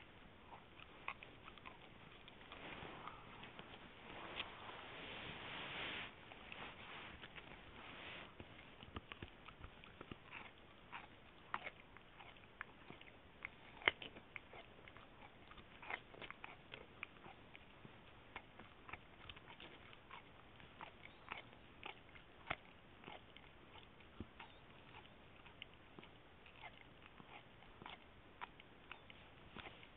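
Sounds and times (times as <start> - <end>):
dog chewing bone: 0.1 - 3.9, 6.3 - 29.9.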